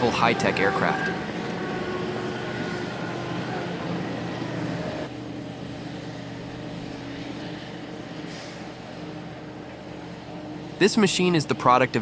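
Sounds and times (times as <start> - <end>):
excavator machine hum: 0.0 - 12.0.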